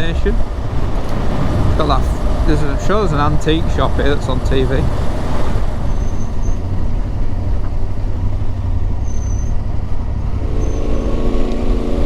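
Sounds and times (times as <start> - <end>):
motorcycle engine drone: 0.0 - 12.0
road and wind noise: 0.0 - 12.0.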